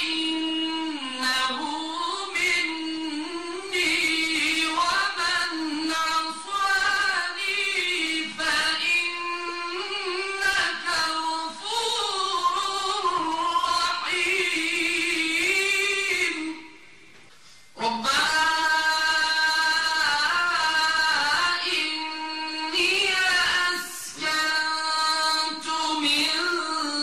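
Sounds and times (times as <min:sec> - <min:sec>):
man reciting melodically: 0:00.0 - 0:17.0, 0:17.7 - 0:27.0.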